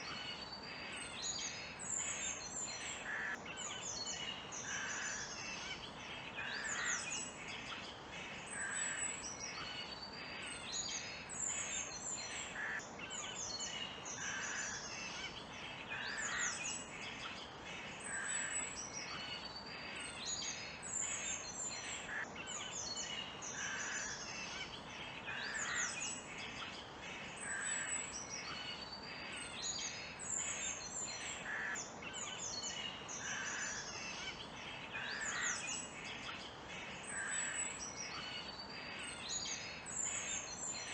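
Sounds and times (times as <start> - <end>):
birds chirping and trilling: 0.0 - 40.9.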